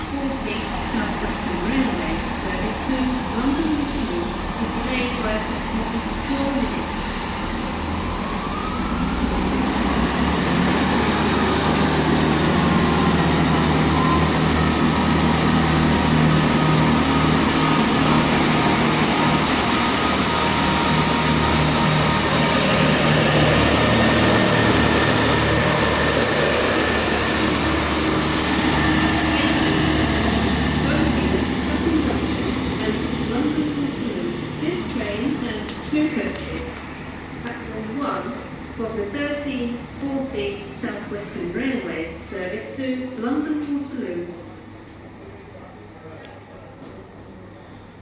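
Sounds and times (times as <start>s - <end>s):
train diesel engines powering up: 0.0s - 48.0s.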